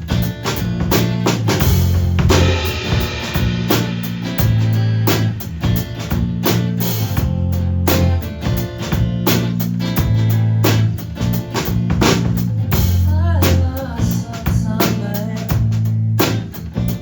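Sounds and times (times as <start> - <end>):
bass notes: 0.0 - 17.0
drum kit beat: 0.0 - 17.0
guitar: 0.0 - 17.0.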